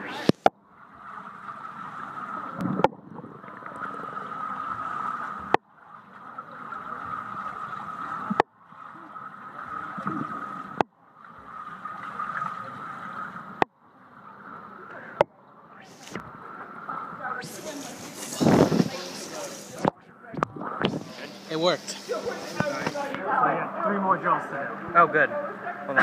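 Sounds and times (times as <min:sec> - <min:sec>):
muffled underwater hum: 0:00.0 - 0:23.2.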